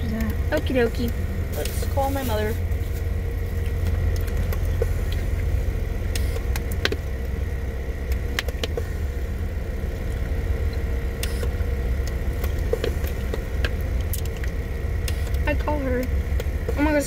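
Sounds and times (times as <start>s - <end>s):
car engine idling: 0.0s - 17.0s
faint steady hum: 0.0s - 17.0s.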